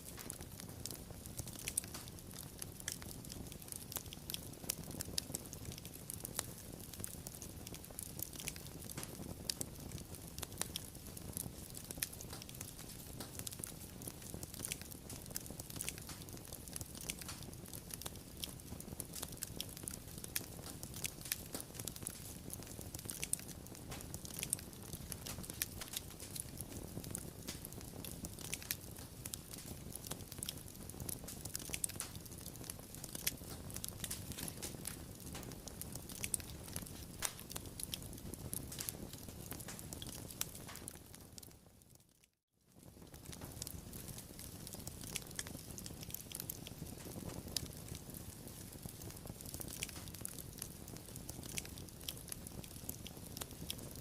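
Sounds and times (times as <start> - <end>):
low rumble of flames: 0.0 - 42.0, 42.7 - 54.0
fire crackling and popping: 0.0 - 54.0.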